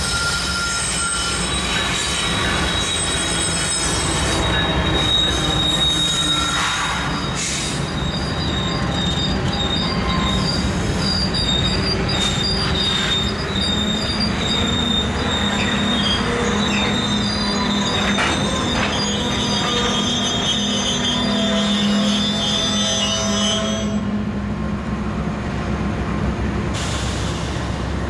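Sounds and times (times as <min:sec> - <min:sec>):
train wheel squeal: 0:00.0 - 0:24.2
freight train rumbling past: 0:00.0 - 0:28.0.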